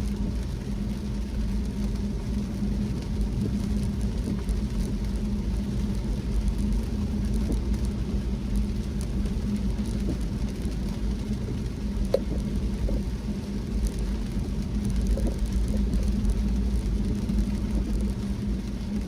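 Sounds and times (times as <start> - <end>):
car road and engine rumble: 0.0 - 19.0
steady hum: 0.0 - 19.0.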